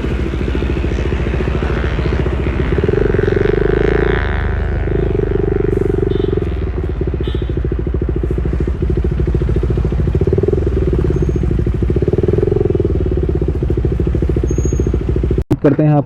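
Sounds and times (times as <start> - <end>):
motorcycle engine exhaust pulses: 0.0 - 15.7.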